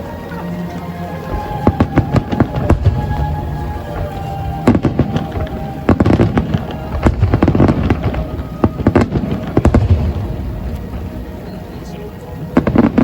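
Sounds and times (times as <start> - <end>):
deep rumble: 0.0 - 13.0
fireworks bangs and crackles: 0.0 - 13.0.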